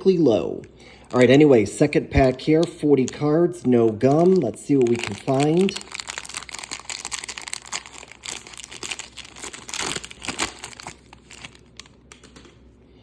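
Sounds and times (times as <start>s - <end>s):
wax-paper wrapper crinkling and tearing: 0.6s - 12.1s.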